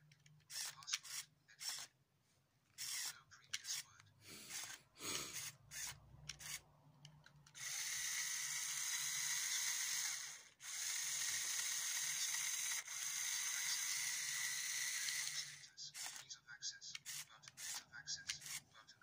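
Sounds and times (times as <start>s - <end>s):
small electric motor whirring: 0.5s - 1.9s, 2.8s - 6.6s, 7.5s - 16.2s, 17.0s - 18.7s.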